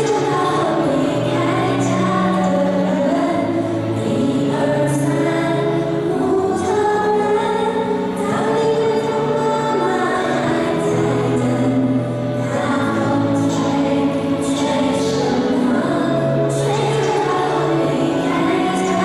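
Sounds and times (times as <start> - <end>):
accompaniment music: 0.0 - 19.0
students singing as a choir: 0.0 - 19.0.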